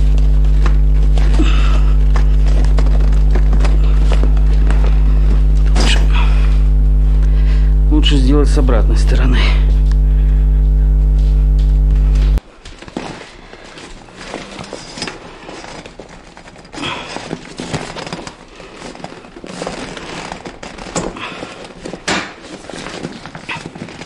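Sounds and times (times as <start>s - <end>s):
fabric rustling: 0.0s - 7.2s, 9.8s - 24.0s.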